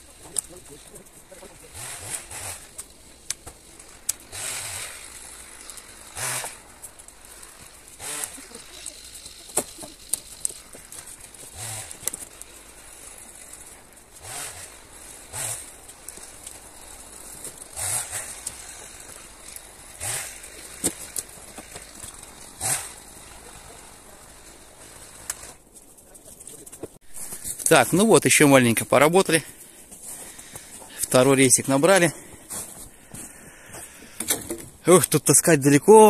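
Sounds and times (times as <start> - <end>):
branches rustling and scraping: 0.0 - 36.0.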